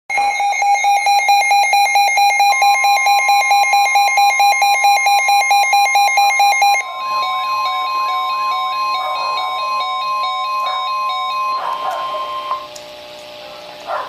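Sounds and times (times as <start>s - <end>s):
steady high alarm tone: 0.1s - 13.6s.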